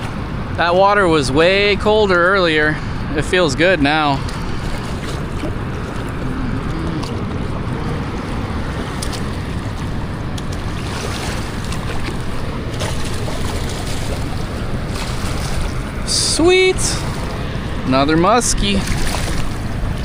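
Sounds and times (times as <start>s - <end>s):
water rushing over spillway: 0.0s - 20.0s
wind buffeting microphone: 0.0s - 20.0s.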